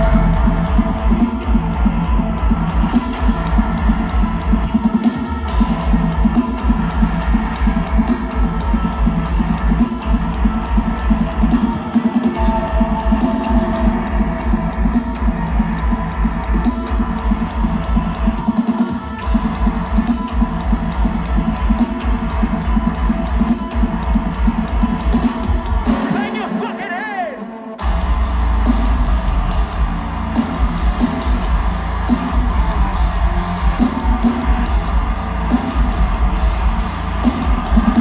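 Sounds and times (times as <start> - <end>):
fast kick drums: 0.0 - 26.5, 27.8 - 38.0
distorted guitars: 0.0 - 38.0
metal band playing live: 0.0 - 38.0.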